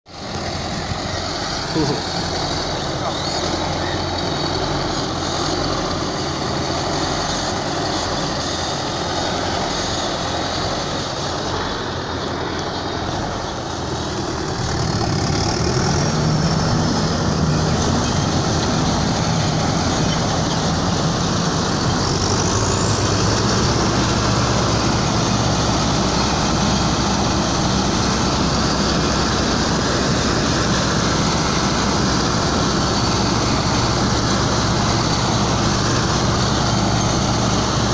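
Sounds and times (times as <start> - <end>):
combine harvester droning: 0.1 - 37.9.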